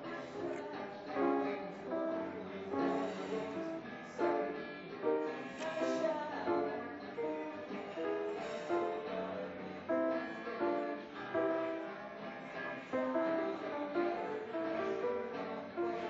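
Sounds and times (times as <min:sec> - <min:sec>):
grand piano chords and melody: 0:00.0 - 0:16.0.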